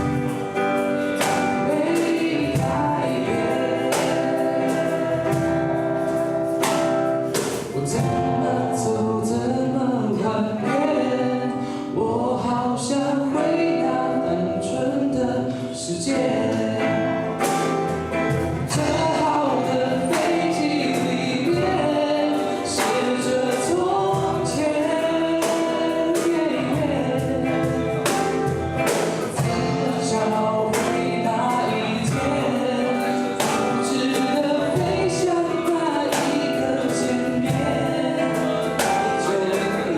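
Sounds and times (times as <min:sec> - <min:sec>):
voices singing together: 0:00.0 - 0:07.2, 0:07.8 - 0:39.9
strummed acoustic guitar: 0:00.0 - 0:39.9.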